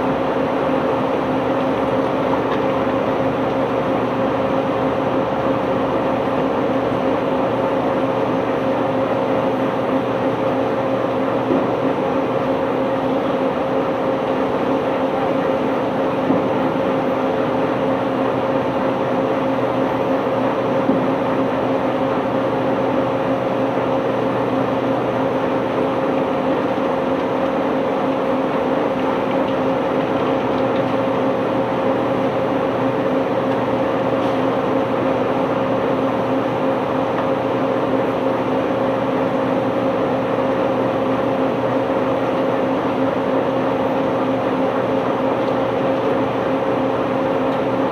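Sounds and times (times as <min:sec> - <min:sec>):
machinery engine drone: 0:00.0 - 0:47.9.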